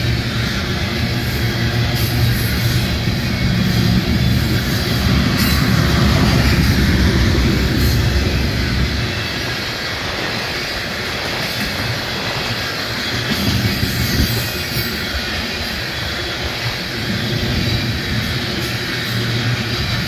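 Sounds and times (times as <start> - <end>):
freight train wheels rattling on rail: 0.0 - 20.0.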